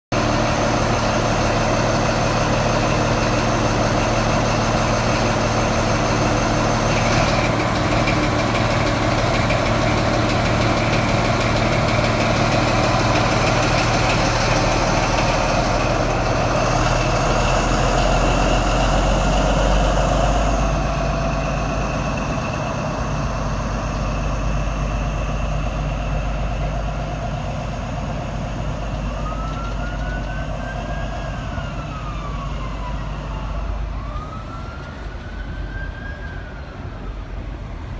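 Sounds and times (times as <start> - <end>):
diesel train engine running: 0.1 - 37.9
train coaches rolling past: 0.2 - 37.9.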